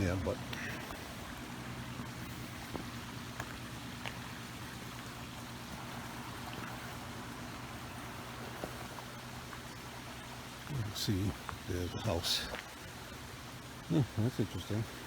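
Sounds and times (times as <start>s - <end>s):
car engine humming: 0.0s - 15.0s
road noise: 0.0s - 15.0s.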